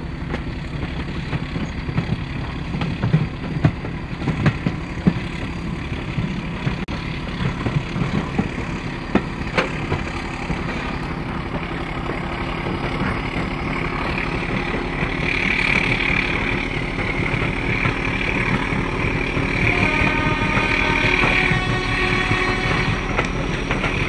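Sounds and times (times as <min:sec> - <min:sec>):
diesel locomotive engine humming: 0:00.0 - 0:24.0
train wheel and rail noise: 0:00.0 - 0:24.0.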